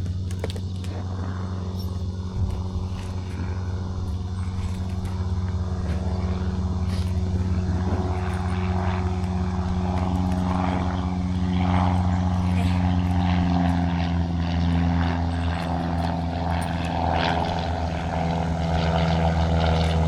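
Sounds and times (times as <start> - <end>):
low mechanical humming drone: 0.0 - 20.0.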